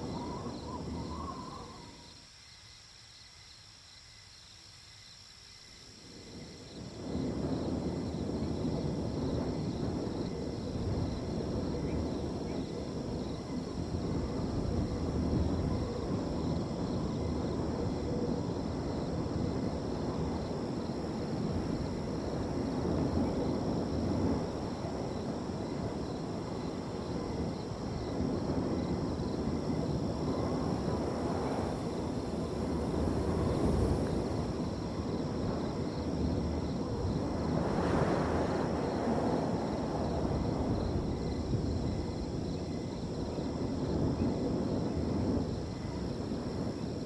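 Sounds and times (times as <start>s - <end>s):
crickets trilling: 0.0s - 47.0s
wind rushing: 6.8s - 47.0s.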